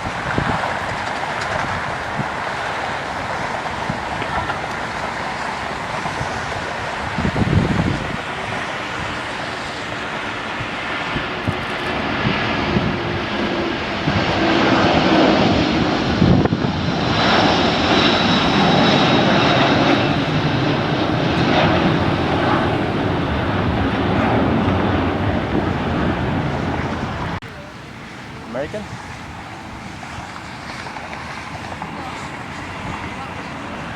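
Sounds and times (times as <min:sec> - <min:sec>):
jet engines passing: 0:00.0 - 0:33.9.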